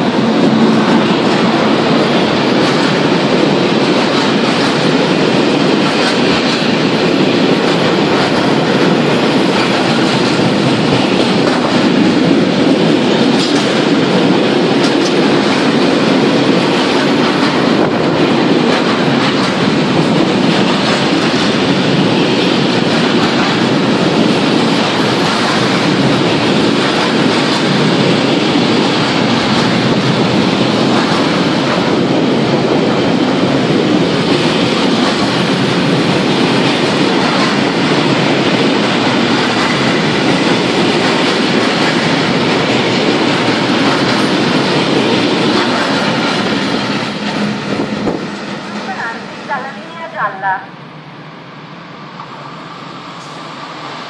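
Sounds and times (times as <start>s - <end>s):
steel wheels rolling on rails: 0.0s - 50.3s.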